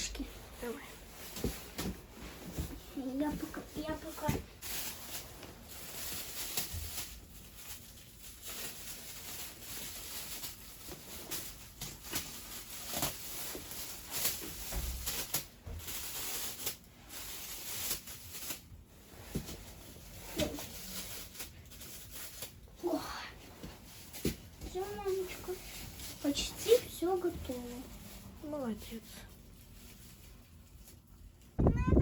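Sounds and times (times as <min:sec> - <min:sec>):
clothing rustling: 0:00.0 - 0:32.0.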